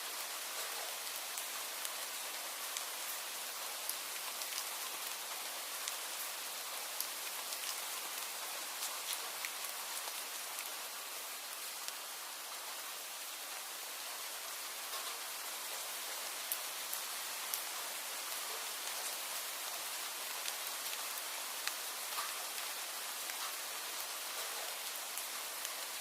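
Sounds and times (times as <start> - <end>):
rain hissing: 0.0 - 26.0.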